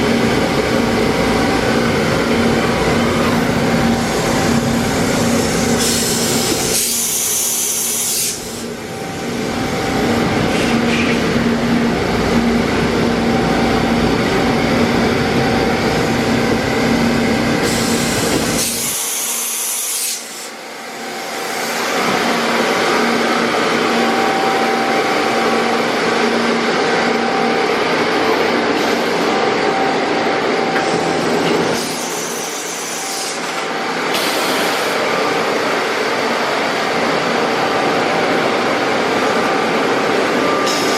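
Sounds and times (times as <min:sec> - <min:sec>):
machinery hum: 0:00.0 - 0:40.9.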